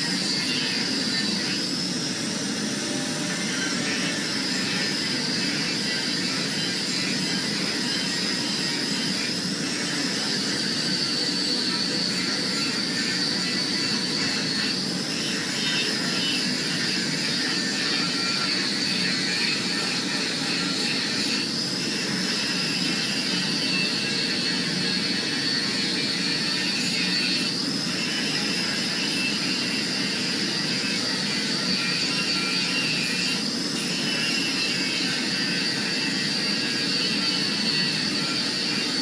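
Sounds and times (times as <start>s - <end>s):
power grinder grinding steel: 0.0s - 39.0s.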